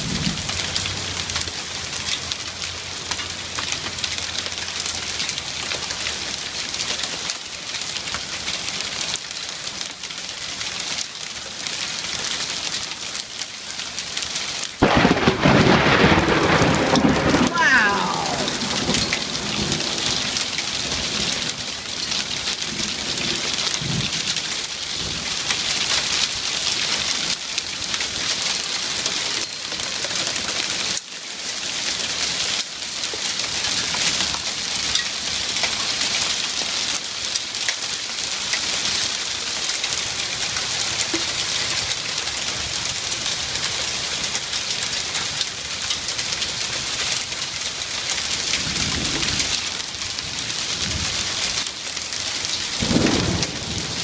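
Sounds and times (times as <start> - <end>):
hail and heavy rain pelting wood: 0.0 - 54.0.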